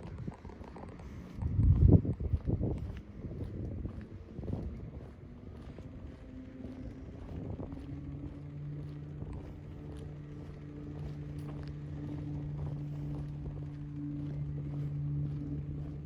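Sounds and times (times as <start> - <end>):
low outdoor rumble: 0.0 - 16.0
motor engine humming: 0.0 - 16.0.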